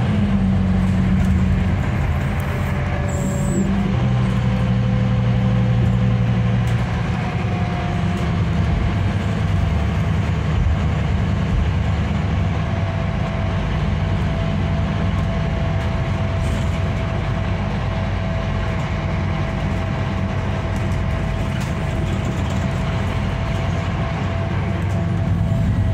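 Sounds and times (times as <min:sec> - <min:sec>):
diesel engine hum: 0:00.0 - 0:25.9
road noise: 0:00.0 - 0:25.9.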